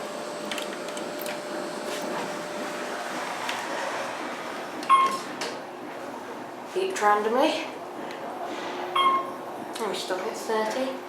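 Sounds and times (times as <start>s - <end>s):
elevator rushing hum: 0.0s - 11.0s.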